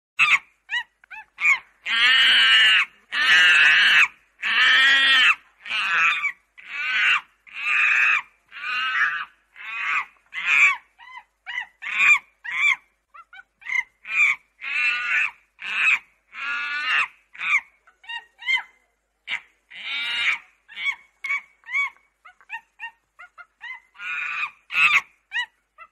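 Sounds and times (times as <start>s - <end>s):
chimpanzee screaming: 0.2s - 25.9s.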